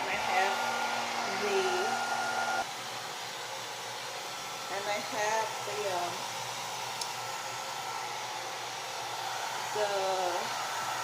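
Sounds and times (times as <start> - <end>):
hood hair dryer blowing air: 0.0 - 11.0.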